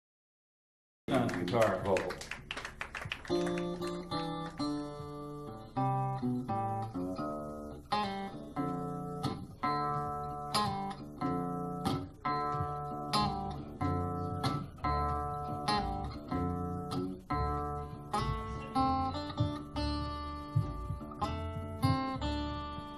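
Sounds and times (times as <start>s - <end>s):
acoustic guitar blues picking: 3.3s - 22.9s.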